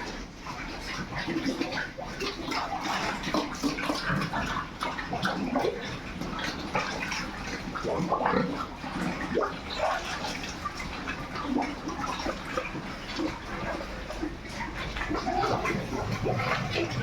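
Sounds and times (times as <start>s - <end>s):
pigs grunting and squealing: 0.6s - 17.0s.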